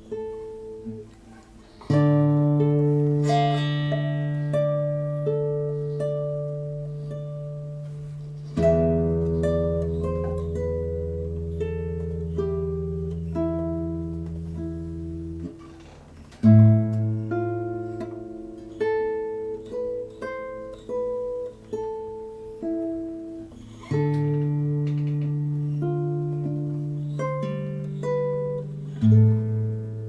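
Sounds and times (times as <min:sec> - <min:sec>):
plucked guitar notes: 0:00.0 - 0:30.0.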